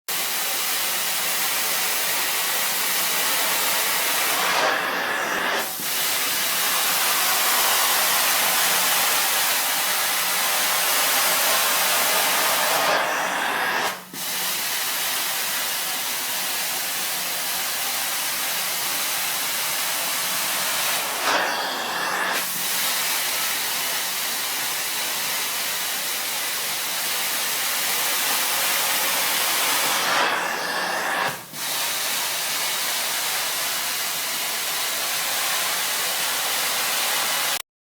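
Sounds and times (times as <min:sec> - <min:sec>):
carpet cleaning wand hissing: 0:00.2 - 0:37.6.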